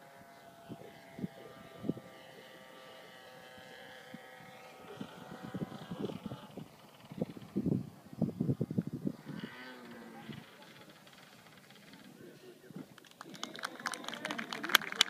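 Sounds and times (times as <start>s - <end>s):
model airplane motor buzzing: 0.0s - 12.2s.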